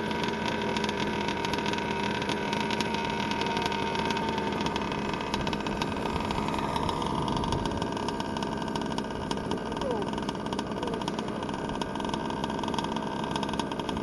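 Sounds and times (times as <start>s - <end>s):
small two-stroke engine buzzing: 0.0s - 14.0s.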